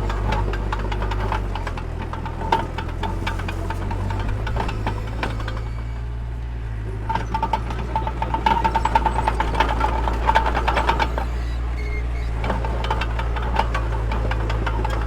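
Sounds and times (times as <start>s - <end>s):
rapid clattering: 0.0s - 6.1s, 7.0s - 15.0s
diesel engine running: 0.0s - 15.0s.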